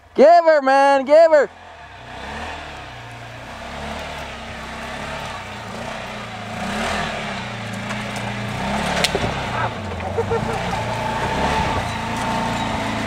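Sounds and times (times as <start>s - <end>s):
engine revving under load: 1.5s - 13.0s.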